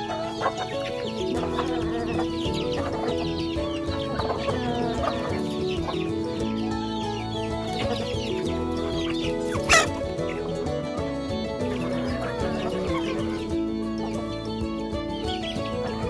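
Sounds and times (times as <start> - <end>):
background music: 0.0 - 16.0
chicks peeping: 0.0 - 16.0
hens clucking: 0.0 - 16.0.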